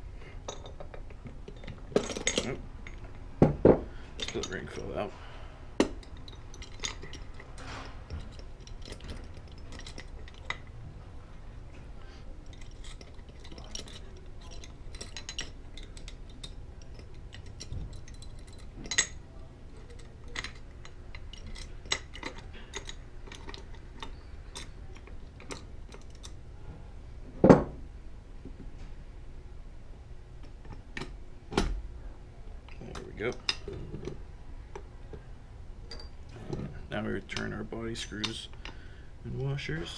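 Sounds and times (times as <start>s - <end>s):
metal parts clicking and clinking: 0.4s - 5.2s, 5.8s - 26.4s, 32.6s - 35.2s, 35.8s - 39.9s.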